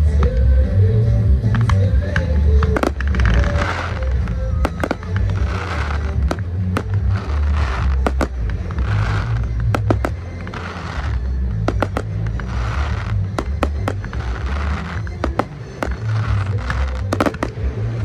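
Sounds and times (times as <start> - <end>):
music with heavy bass: 0.0 - 18.0
fireworks bangs and crackling: 1.2 - 18.0.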